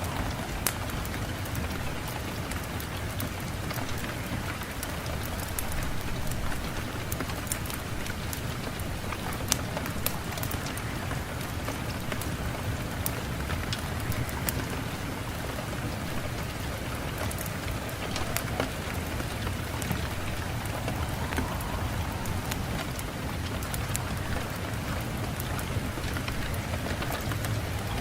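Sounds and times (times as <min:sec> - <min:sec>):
rain falling: 0:00.0 - 0:28.0
raindrops ticking: 0:00.0 - 0:28.0.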